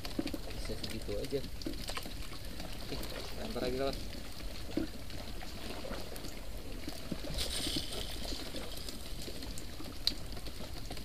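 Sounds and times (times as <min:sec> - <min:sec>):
water lapping around boat: 0:00.0 - 0:11.0.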